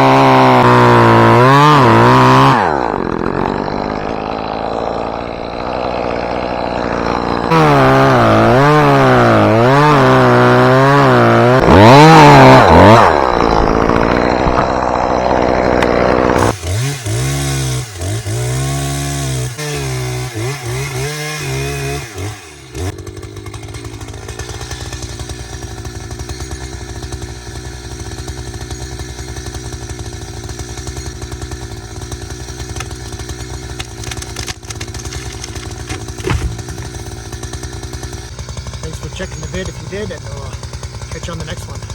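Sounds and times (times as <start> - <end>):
chainsaw cutting: 0.0 - 41.9.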